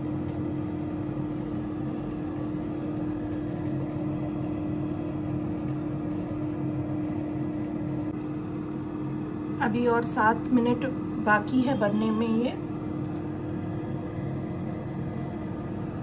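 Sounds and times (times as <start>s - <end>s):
air fryer fan humming: 0.0s - 16.0s.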